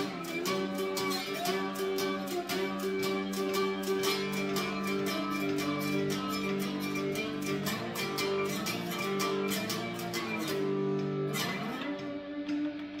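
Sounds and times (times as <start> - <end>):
electric guitar blues riff: 0.0 - 13.0.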